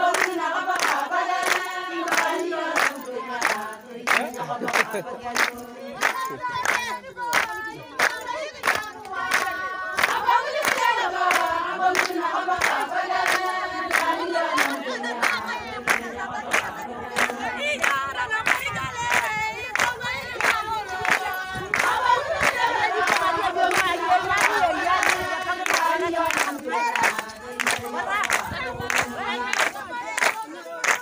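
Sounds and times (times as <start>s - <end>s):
hand-clapping: 0.0s - 31.0s
women singing together: 0.0s - 31.0s.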